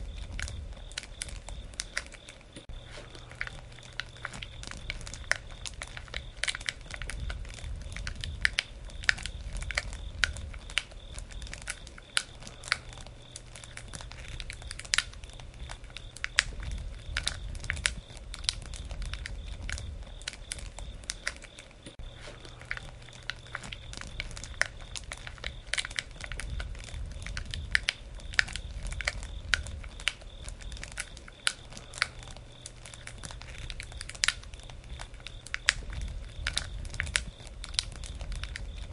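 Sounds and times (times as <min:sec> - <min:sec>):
campfire pops and snaps: 0:00.0 - 0:38.9
low rumble of flame: 0:00.0 - 0:38.9.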